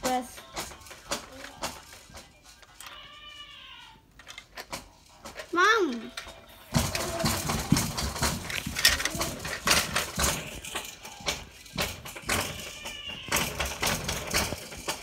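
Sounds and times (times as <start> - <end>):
toy train wheels clicking and rattling: 0.0 - 15.0.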